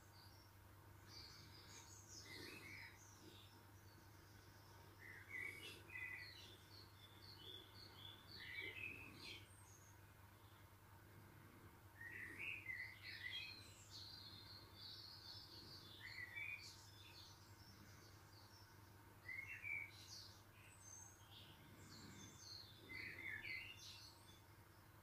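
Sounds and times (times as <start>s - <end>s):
low steady hum: 0.0s - 25.0s
songbird chirping: 0.0s - 25.0s.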